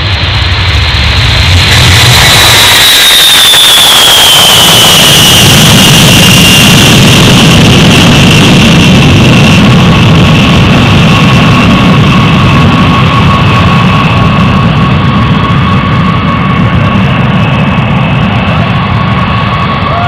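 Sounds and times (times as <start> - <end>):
jet engines roaring: 0.0 - 20.0
jet whine sliding down: 0.0 - 20.0.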